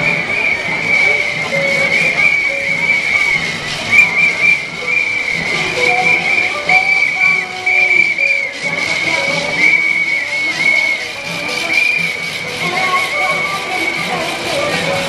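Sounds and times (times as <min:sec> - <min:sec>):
crowd hubbub: 0:00.0 - 0:15.0
shrill whistles blowing: 0:00.0 - 0:15.0.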